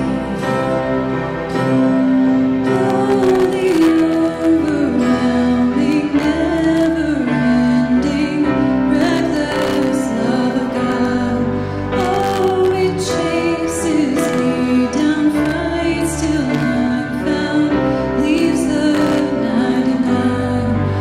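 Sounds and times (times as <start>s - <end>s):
instrumental accompaniment: 0.0s - 21.0s
woman singing slow melody: 2.5s - 21.0s.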